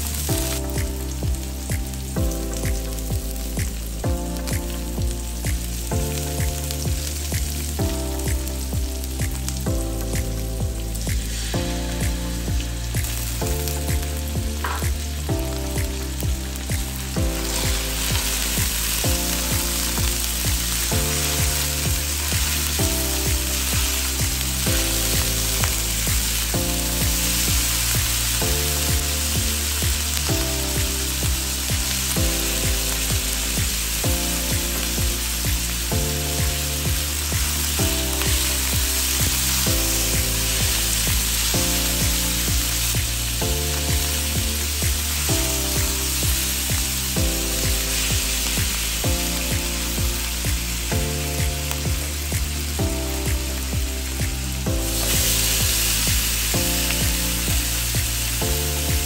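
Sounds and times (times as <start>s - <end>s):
background music: 0.0s - 59.0s
vegetables sizzling in oil: 0.0s - 59.0s.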